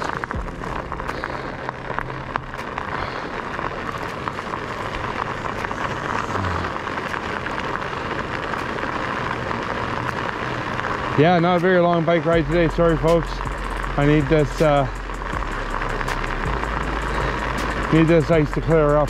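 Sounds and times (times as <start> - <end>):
studded bike tyres rolling on ice: 0.0 - 19.0.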